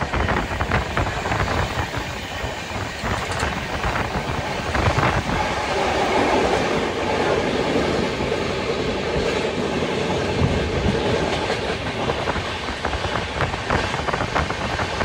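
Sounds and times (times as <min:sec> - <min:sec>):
train coaches rumbling on rails: 0:00.0 - 0:15.0.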